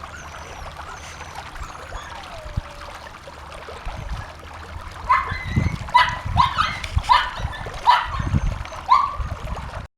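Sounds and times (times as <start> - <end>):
water trickling: 0.0 - 9.9.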